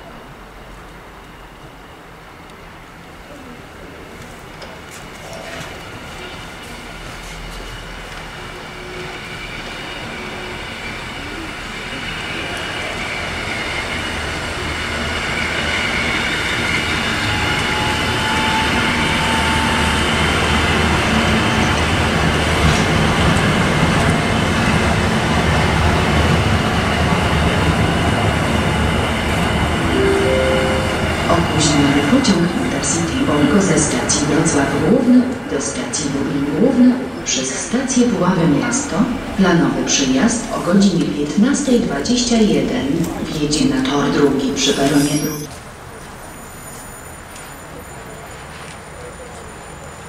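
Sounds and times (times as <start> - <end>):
electric train rolling: 4.2 - 50.0.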